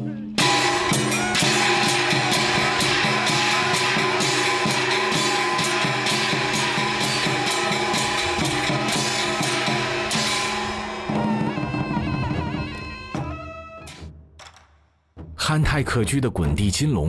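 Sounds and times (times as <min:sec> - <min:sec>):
drum and percussion beat: 0:00.0 - 0:16.0
held instrumental notes: 0:00.4 - 0:14.1.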